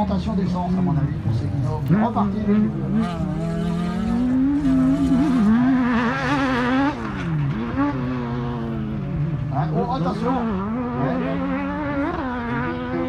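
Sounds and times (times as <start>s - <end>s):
buggy engine revving hard: 0.0s - 13.0s.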